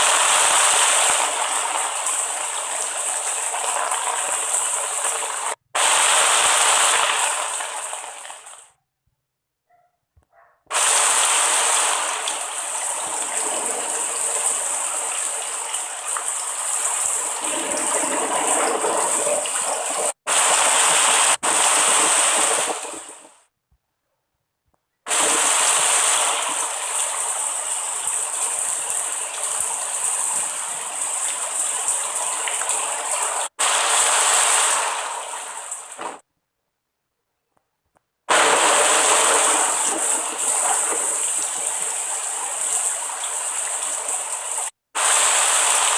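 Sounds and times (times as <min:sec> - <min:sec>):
rushing water hiss: 0:00.0 - 0:08.7, 0:10.7 - 0:23.4, 0:25.1 - 0:36.2, 0:38.3 - 0:45.9.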